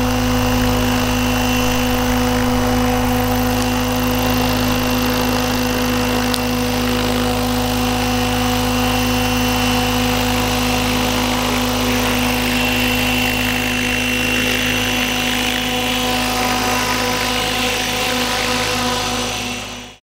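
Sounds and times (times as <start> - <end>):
model helicopter rotor whine: 0.0 - 20.0.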